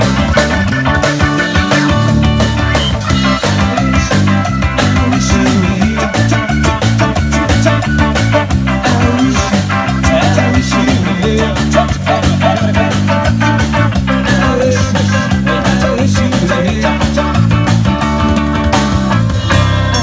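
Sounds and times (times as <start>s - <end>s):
bass line: 0.0s - 20.0s
drums steady beat: 0.0s - 20.0s
wavering electric guitar melody: 0.0s - 20.0s.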